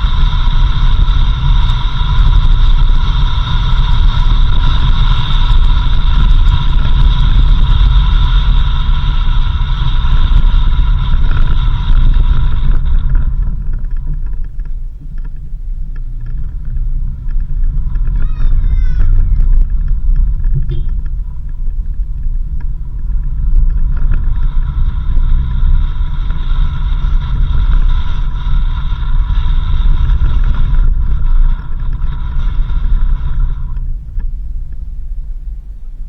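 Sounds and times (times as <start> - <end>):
off-road vehicle rumbling: 0.0 - 36.0.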